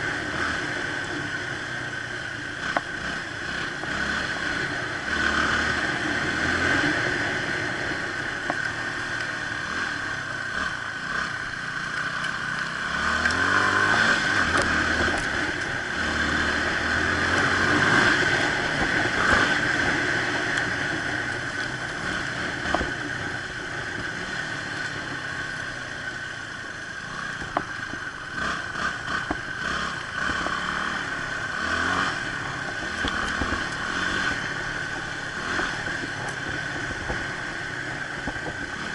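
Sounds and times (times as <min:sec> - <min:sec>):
motorcycle engine revving: 0:00.0 - 0:38.9
steady rushing noise: 0:00.0 - 0:38.9.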